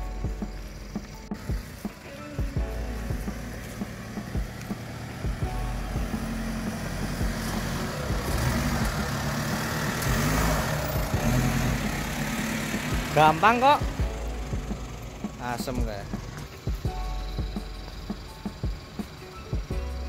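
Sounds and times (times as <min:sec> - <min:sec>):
car engine at low revs: 0:00.0 - 0:20.0.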